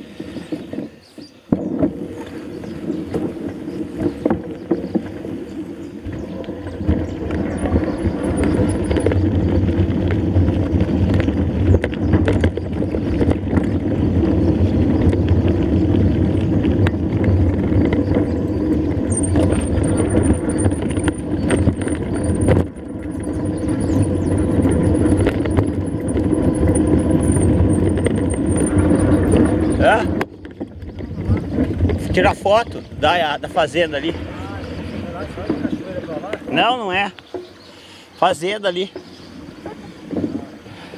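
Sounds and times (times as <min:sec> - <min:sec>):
wind on microphone: 0:00.0 - 0:36.7, 0:39.0 - 0:40.9
rolling bike tyres: 0:00.0 - 0:40.9
bike knocks and rattles: 0:00.1 - 0:37.6.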